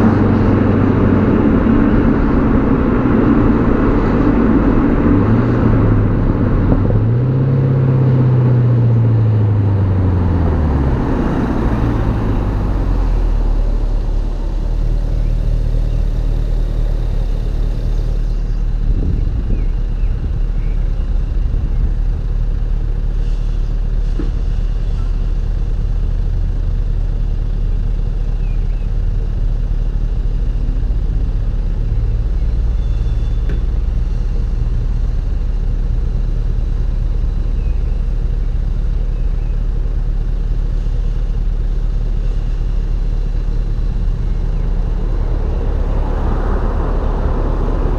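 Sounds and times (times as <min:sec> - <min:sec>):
car exhaust low drone: 0:00.0 - 0:47.9.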